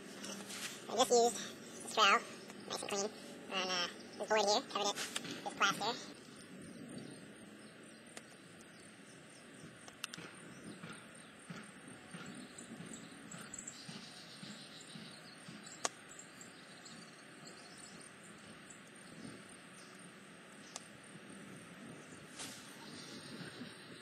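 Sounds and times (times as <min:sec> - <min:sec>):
faint outdoor background noise: 0:00.0 - 0:24.0.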